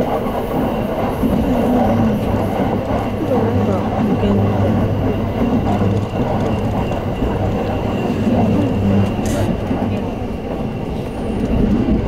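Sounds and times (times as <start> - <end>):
train rumble and motor hum: 0.0 - 12.0.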